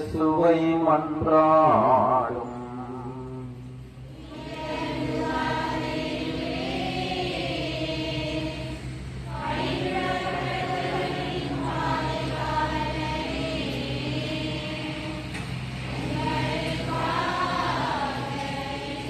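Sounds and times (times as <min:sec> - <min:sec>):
congregation singing: 0:00.0 - 0:19.0
steady low hum: 0:00.0 - 0:19.0.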